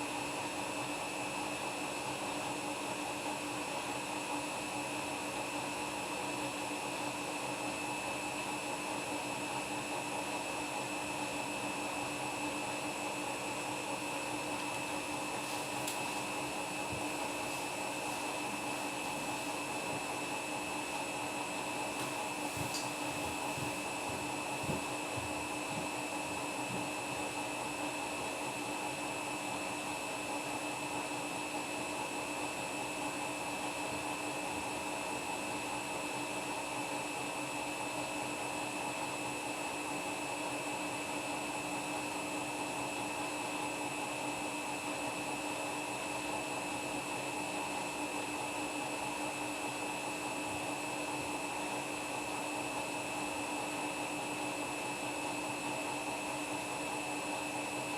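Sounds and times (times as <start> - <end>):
washing machine motor whine: 0.0 - 57.9.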